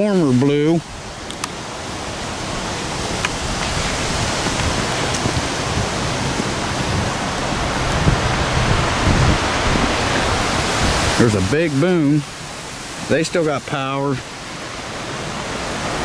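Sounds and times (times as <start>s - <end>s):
heavy rain and wind: 0.0s - 16.0s.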